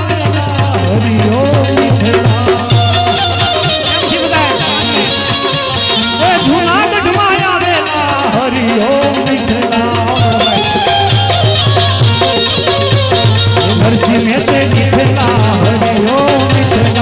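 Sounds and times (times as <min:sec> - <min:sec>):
ornamented folk melody: 0:00.0 - 0:17.0
steady percussion: 0:00.0 - 0:17.0.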